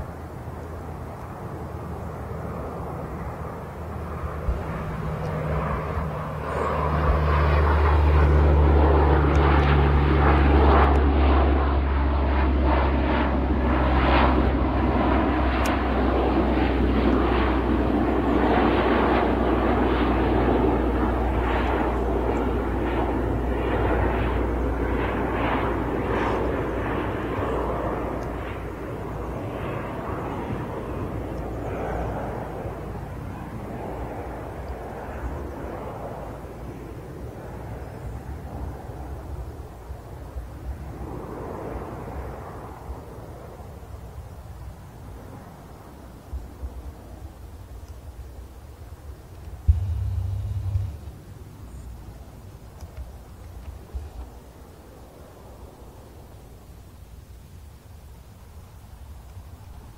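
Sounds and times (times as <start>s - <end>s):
turboprop aircraft passing low: 0.0s - 47.6s, 48.4s - 57.3s.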